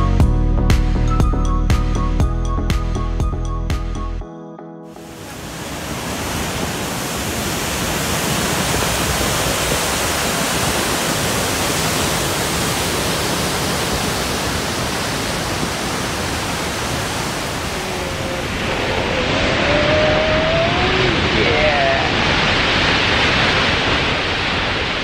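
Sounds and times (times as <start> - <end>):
waterfall rushing: 4.9 - 25.0.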